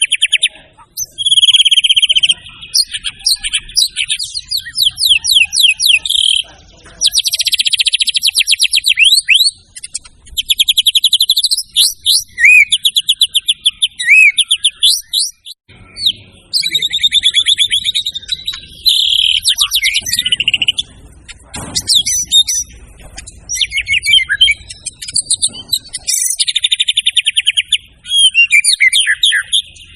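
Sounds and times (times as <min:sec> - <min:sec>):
bird singing rattling trills: 0:00.0 - 0:29.9.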